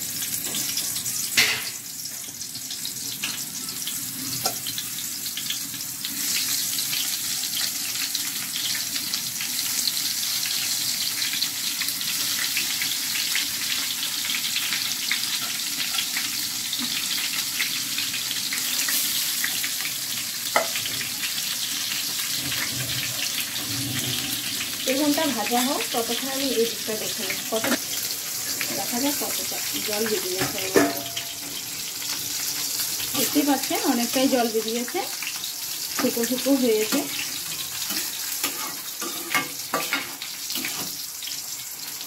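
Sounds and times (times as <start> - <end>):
slices frying in oil: 0.0 - 42.0.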